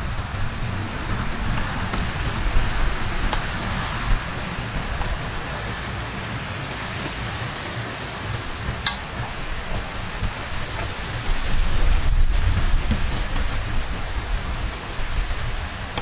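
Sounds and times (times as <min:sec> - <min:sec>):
outdoor background hiss: 0:00.0 - 0:16.0
wind rumble on microphone: 0:00.0 - 0:16.0.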